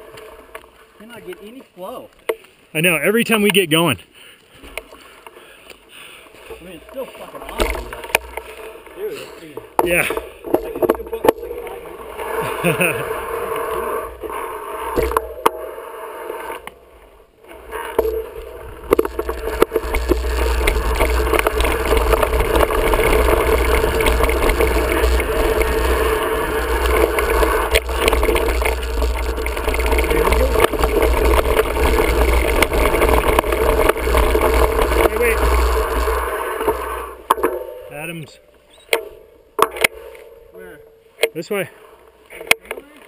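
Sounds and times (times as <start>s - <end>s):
tyres rolling on dirt: 0.0s - 16.6s, 17.4s - 40.4s
bike rattling: 6.0s - 15.4s, 17.4s - 43.0s.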